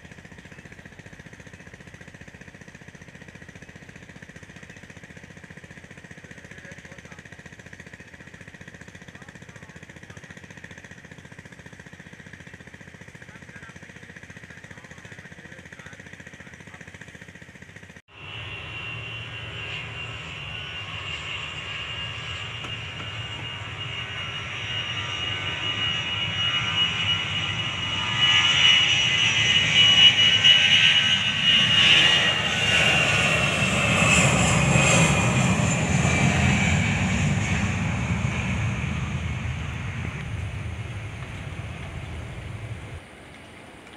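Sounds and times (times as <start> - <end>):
high jet engine whine: 0.0 - 43.9
jet engines passing by: 0.0 - 43.9.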